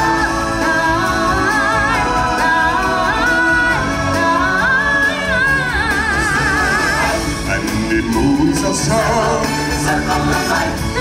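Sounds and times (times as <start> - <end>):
steady musical accompaniment: 0.0 - 11.0.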